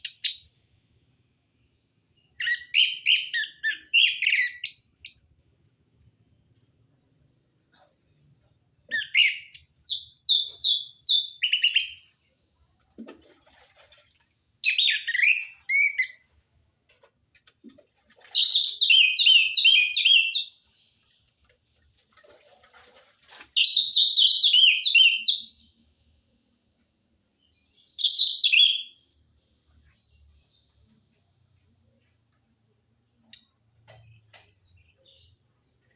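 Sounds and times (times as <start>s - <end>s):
songbird chirping: 0.0s - 35.9s.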